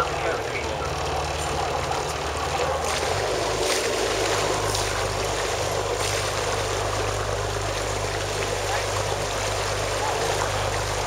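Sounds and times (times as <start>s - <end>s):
boat engine running: 0.0s - 11.0s
water splashing along hull: 0.0s - 11.0s.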